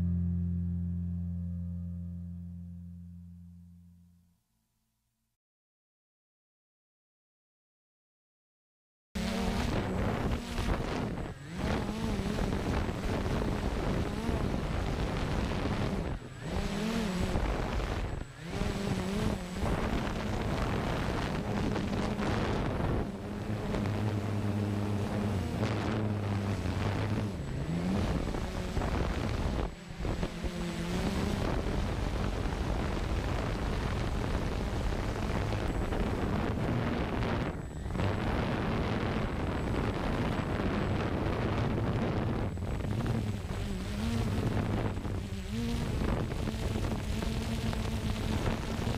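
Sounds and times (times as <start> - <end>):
drone propellers whining: 9.2 - 48.9
wind rushing over microphone: 9.2 - 48.9.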